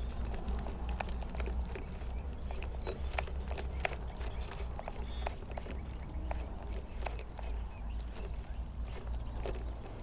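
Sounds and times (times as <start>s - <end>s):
light clicks and ticks: 0.0s - 10.0s.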